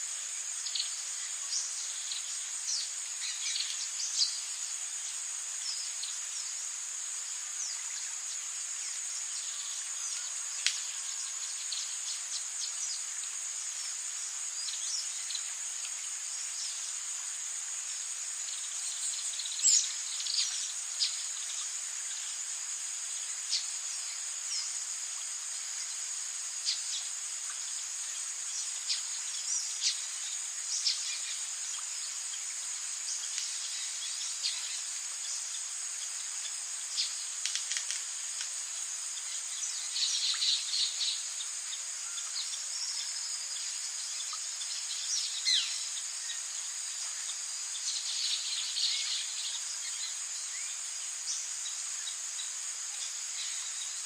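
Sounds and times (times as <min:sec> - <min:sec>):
high insect chorus: 0:00.0 - 0:54.0.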